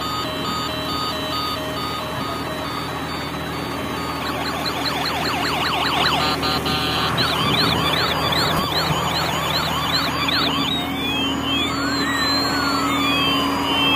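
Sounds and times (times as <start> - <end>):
electronic wailing siren effect: 0.0 - 13.9
steady low hum: 0.0 - 13.9
tinny beeping tune: 0.0 - 13.9.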